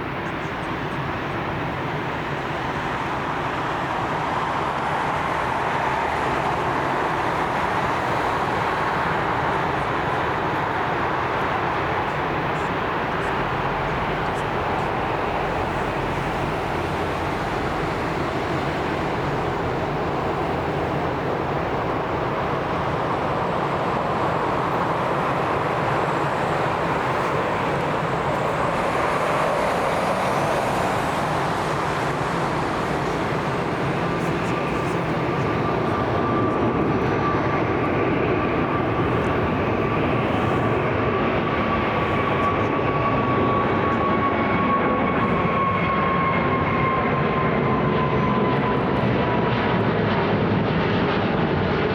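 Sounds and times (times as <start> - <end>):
high engine whine: 0.0 - 51.9
jet engines rumbling: 0.0 - 51.9.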